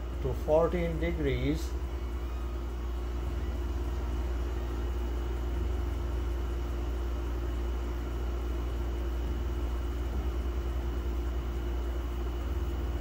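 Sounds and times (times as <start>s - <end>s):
air conditioner low hum: 0.0s - 13.0s.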